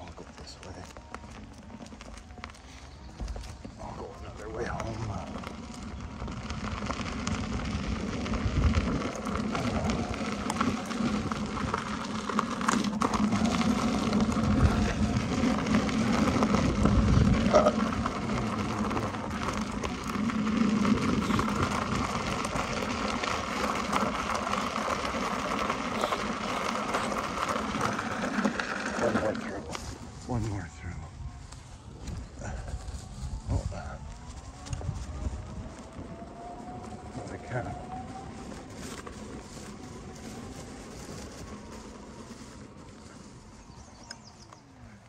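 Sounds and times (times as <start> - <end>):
low uneven rumble: 0.0 - 45.0
tyres on gravel: 0.0 - 45.0.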